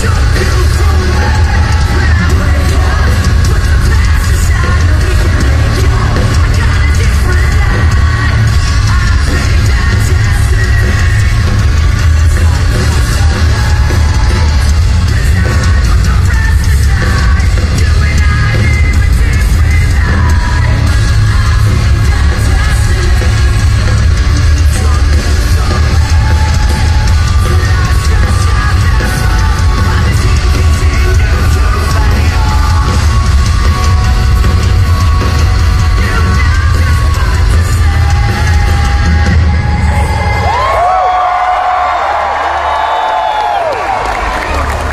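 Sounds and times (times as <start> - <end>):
person singing: 0.0 - 42.0
distorted guitars: 0.0 - 44.9
drums: 0.0 - 44.9
live rock band: 0.0 - 44.9.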